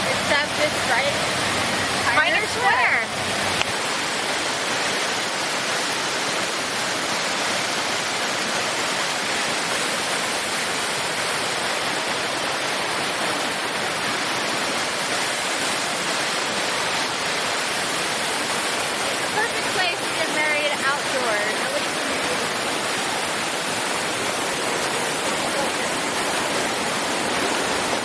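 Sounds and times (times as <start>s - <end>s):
waterfall pouring into pool: 0.0s - 28.0s.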